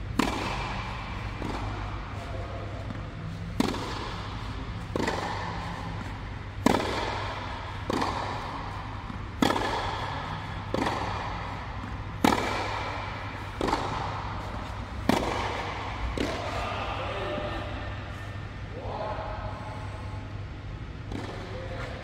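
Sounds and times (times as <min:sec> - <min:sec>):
tennis balls struck with rackets: 0:00.0 - 0:17.0, 0:21.0 - 0:22.0.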